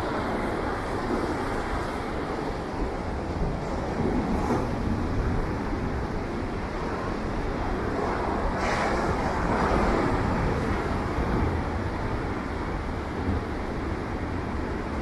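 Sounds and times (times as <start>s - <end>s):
surf breaking on beach: 0.0s - 12.6s.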